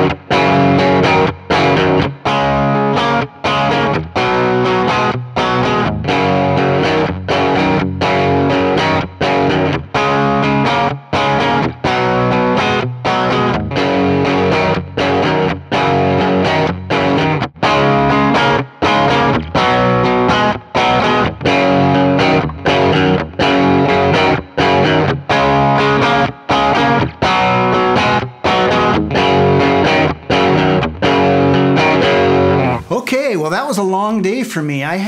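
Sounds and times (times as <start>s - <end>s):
electric guitar chord riff: 0.0s - 32.9s.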